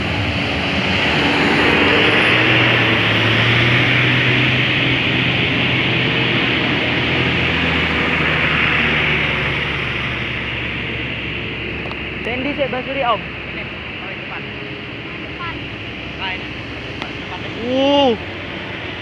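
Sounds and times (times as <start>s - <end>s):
bus engine running: 0.0s - 19.0s
road and wind noise: 0.0s - 19.0s.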